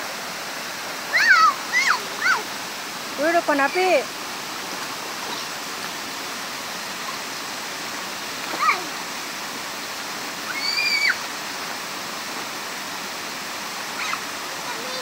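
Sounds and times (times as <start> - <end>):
water pouring over waterfall: 0.0 - 15.0.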